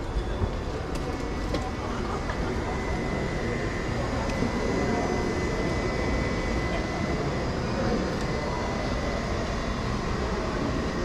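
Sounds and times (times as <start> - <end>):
murmur of distant voices: 0.0 - 11.0.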